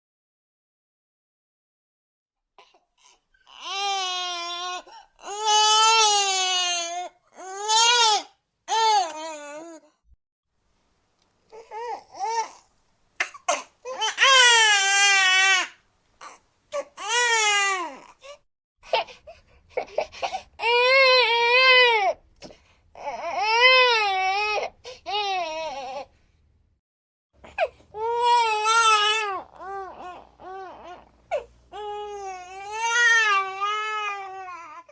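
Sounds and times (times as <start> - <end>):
infant crying: 2.6 - 10.0, 11.5 - 19.1, 19.8 - 22.2, 23.0 - 26.1, 27.4 - 34.9.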